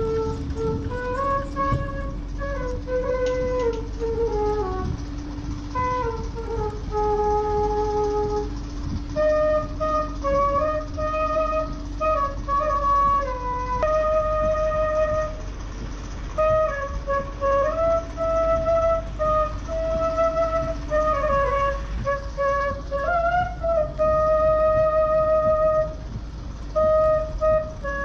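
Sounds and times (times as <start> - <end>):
bamboo flute melody: 0.0 - 28.0.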